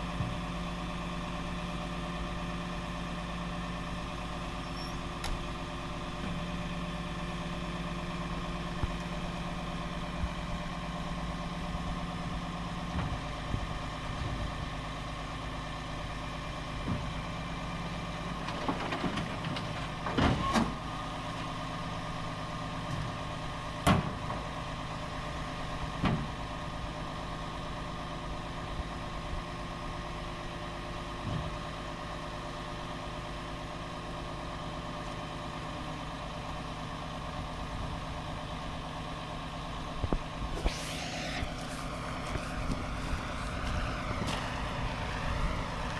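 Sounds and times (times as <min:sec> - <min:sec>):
diesel truck idling: 0:00.0 - 0:45.9.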